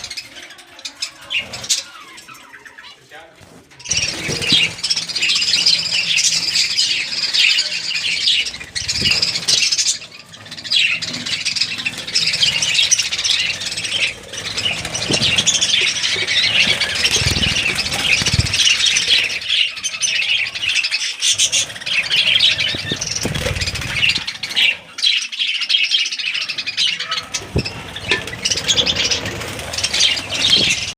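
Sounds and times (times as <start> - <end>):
budgerigars chattering: 0.0 - 3.2, 3.8 - 30.9.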